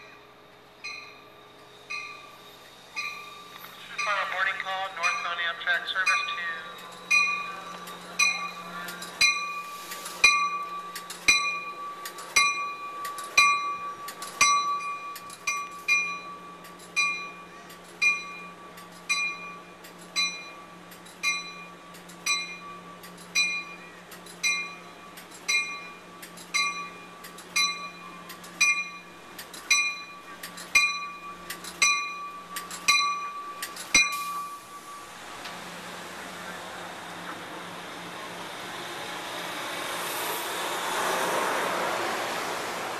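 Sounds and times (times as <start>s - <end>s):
train bell ringing: 0.0s - 35.8s
low hum of moving train: 0.0s - 42.9s.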